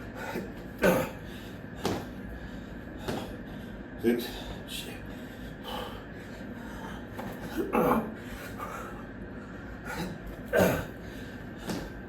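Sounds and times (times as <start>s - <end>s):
man breathing hard: 0.0s - 12.0s.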